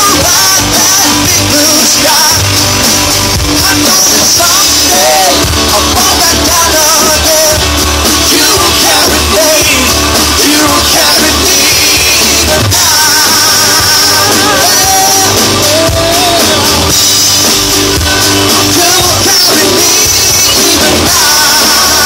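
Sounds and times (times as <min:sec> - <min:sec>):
drums: 0:00.0 - 0:22.0
electric guitars: 0:00.0 - 0:22.0
singer's vocal: 0:00.0 - 0:22.0.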